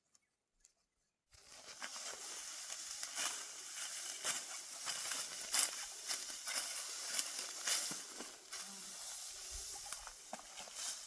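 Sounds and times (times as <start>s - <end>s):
dry crackling and rustling: 1.4s - 11.0s.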